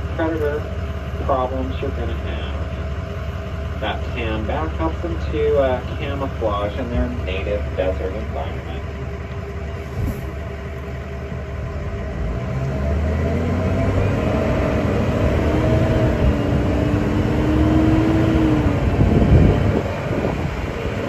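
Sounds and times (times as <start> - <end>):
engine low rumble: 0.0 - 21.0
humming whine: 0.0 - 21.0.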